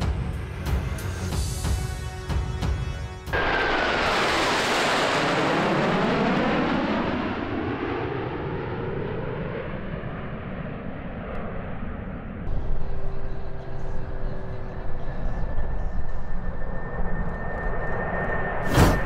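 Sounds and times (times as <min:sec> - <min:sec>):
jet fighters flying past: 0:03.3 - 0:19.0.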